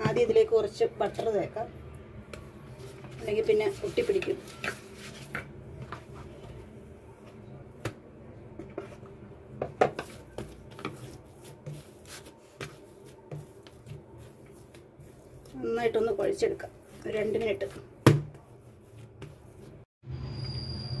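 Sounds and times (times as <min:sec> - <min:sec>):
hands kneading dough: 0:00.0 - 0:19.9.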